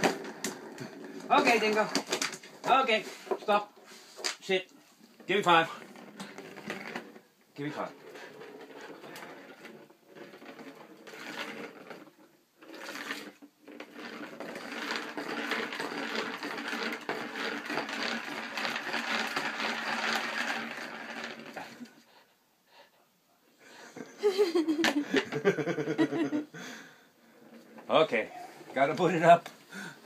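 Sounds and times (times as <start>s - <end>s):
plastic ball rolling rattle: 0.0s - 22.1s, 23.8s - 30.0s.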